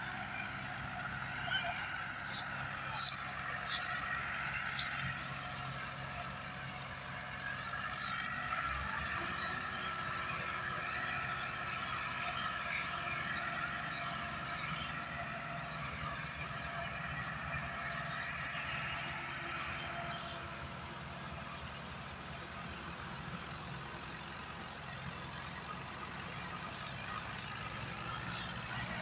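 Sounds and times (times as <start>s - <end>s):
diesel tractor engines under load: 0.0s - 29.0s.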